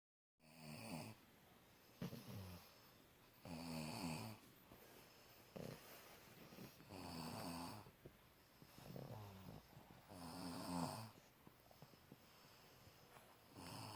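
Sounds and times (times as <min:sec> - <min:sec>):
faint snoring: 0:00.4 - 0:01.2, 0:02.0 - 0:04.5, 0:05.4 - 0:08.0, 0:08.6 - 0:13.9.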